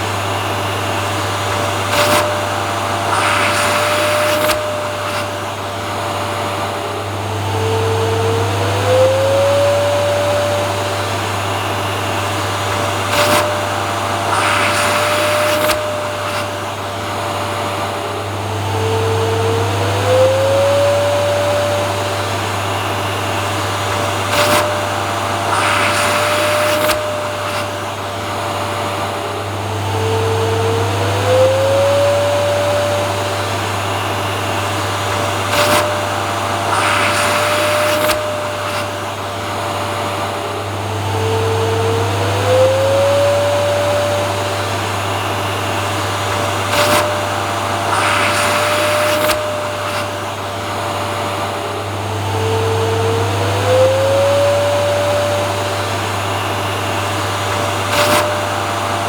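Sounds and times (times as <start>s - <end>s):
vacuum cleaner motor running: 0.0s - 59.0s.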